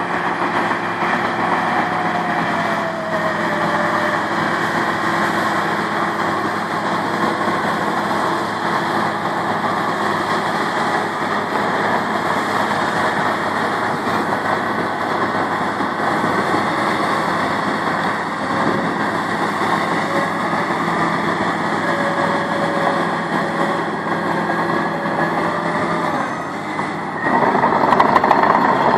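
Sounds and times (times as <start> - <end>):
bulldozer diesel engine running: 0.0 - 28.9.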